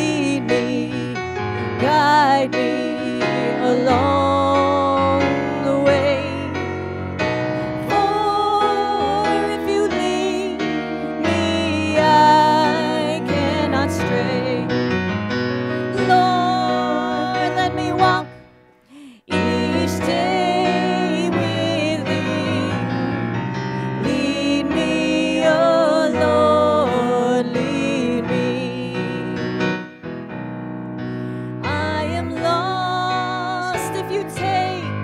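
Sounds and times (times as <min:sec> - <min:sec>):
woman singing a hymn: 0:00.0 - 0:06.6, 0:07.8 - 0:14.7, 0:15.9 - 0:23.2, 0:23.9 - 0:29.4, 0:31.6 - 0:35.0
grand piano: 0:00.0 - 0:35.0.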